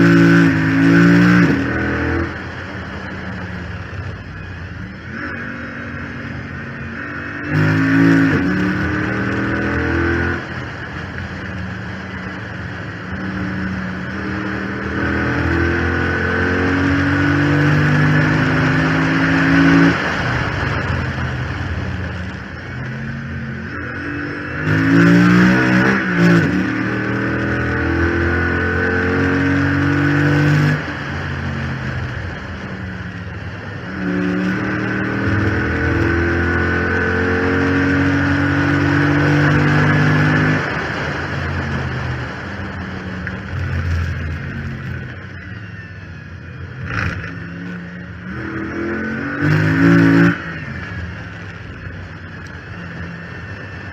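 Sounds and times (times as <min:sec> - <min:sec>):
car engine revving at full throttle: 0:00.0 - 0:53.9
high mechanical whine: 0:00.0 - 0:53.9.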